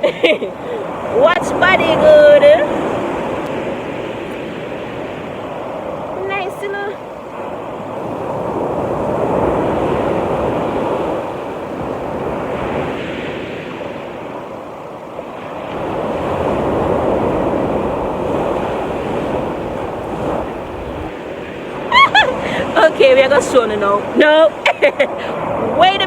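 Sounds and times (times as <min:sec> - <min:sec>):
sea surf washing on shore: 0:00.0 - 0:26.0.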